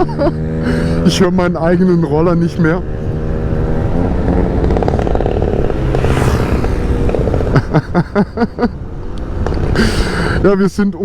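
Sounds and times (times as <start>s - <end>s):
motorcycle and scooter engines: 0.0s - 10.5s.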